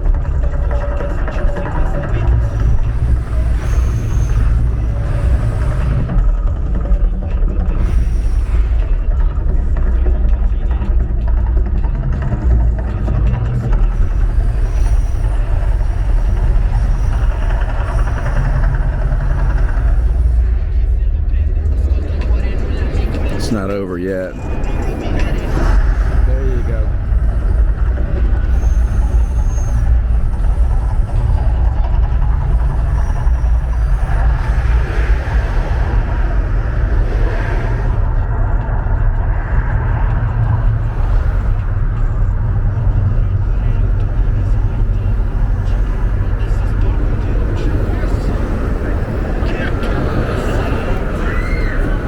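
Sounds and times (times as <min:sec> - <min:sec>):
deep rumble over loudspeakers: 0:00.0 - 0:52.0.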